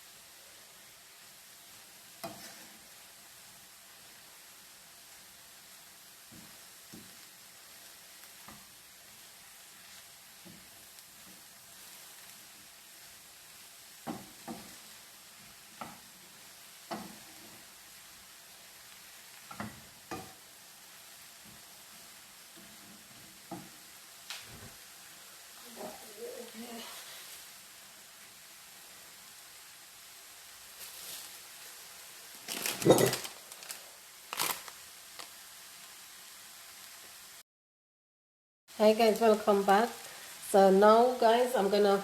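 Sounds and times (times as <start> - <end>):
vegetables sizzling in oil: 0.0 - 37.4, 38.7 - 42.0.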